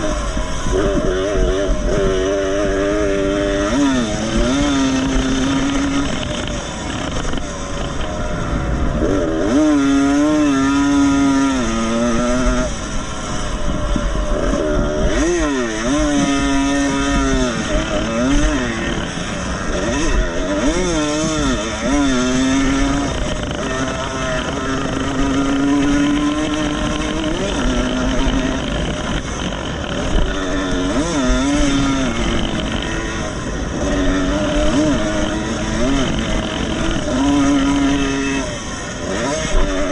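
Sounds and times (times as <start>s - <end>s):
motorcycle engine revving: 0.0s - 39.9s
other motorcycles running: 0.0s - 39.9s.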